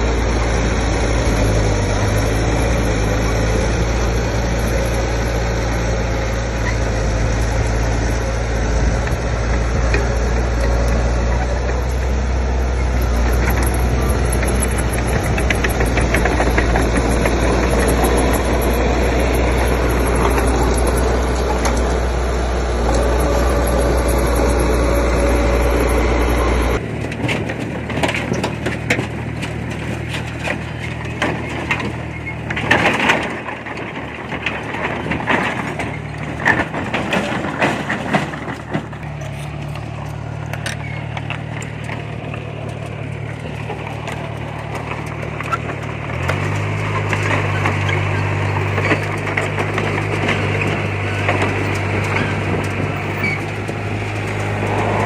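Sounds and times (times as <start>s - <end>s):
heavy machinery diesel engine rumbling: 0.0s - 55.0s.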